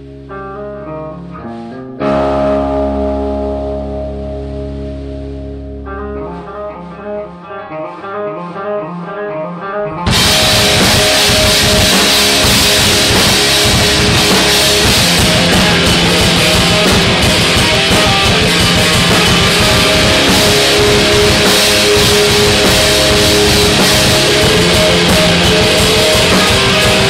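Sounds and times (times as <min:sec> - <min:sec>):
rock band playing loud: 0:00.0 - 0:08.9, 0:09.8 - 0:27.0
guitar picking repeating figure: 0:00.0 - 0:27.0.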